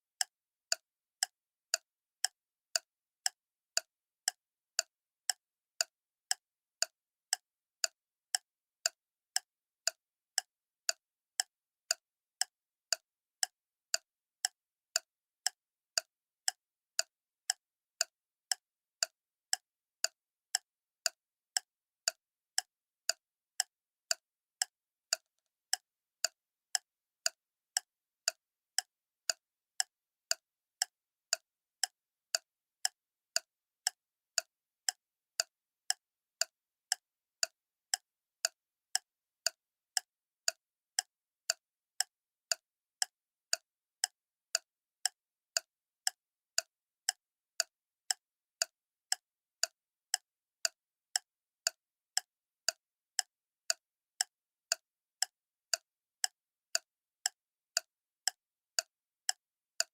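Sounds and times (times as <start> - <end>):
clock ticking: 0.2 - 59.9.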